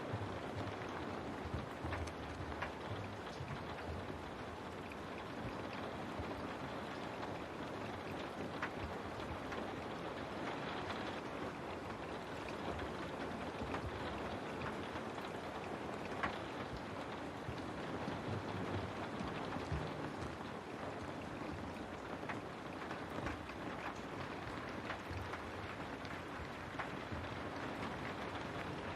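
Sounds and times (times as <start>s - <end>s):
rain on a window: 0.0s - 28.9s.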